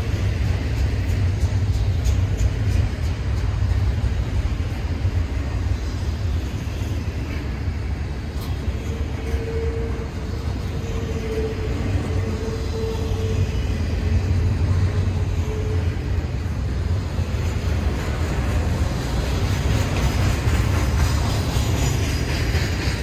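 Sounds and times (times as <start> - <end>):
freight train rumbling on rails: 0.0 - 23.0.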